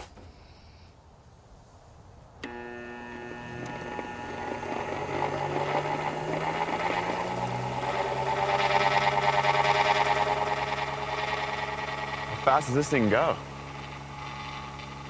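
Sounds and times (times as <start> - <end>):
machine wheels whirring: 2.4 - 15.0.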